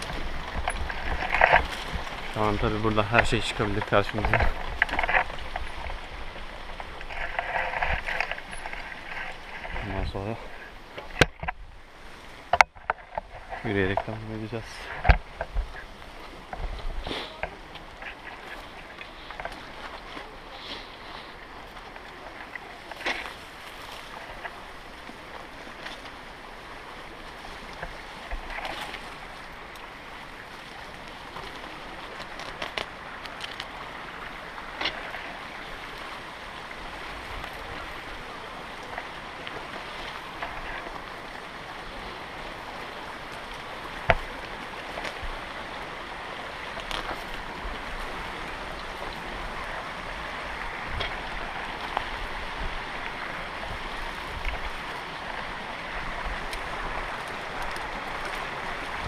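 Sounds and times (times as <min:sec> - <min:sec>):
mountain stream and waterfall: 0:00.0 - 0:59.0.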